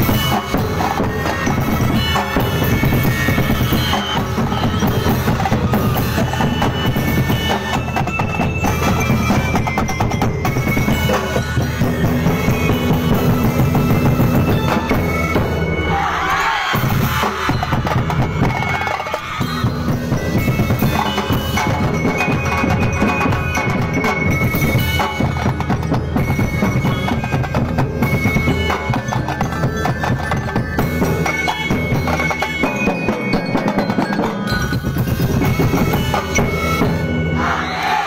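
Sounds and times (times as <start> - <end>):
bass drums: 0.0 - 15.8, 16.8 - 37.5
glockenspiels: 0.0 - 38.0
xylophones playing fast rhythm: 0.0 - 38.0.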